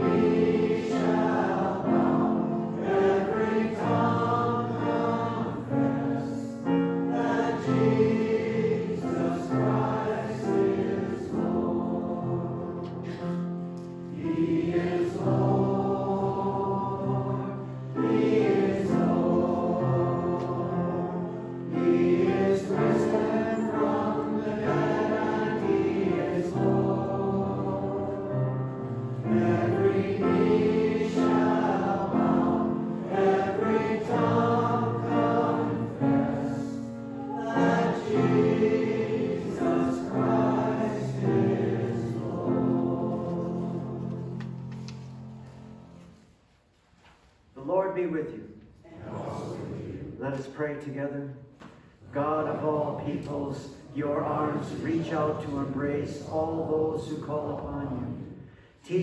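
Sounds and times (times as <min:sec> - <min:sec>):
choir singing in harmony: 0:00.0 - 0:46.2, 0:48.9 - 0:50.2, 0:52.1 - 0:59.0.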